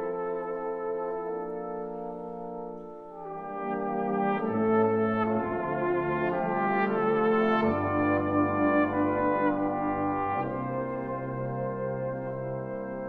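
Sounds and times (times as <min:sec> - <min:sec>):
brass band playing ballad: 0:00.0 - 0:13.0
cornet solo: 0:00.0 - 0:13.0.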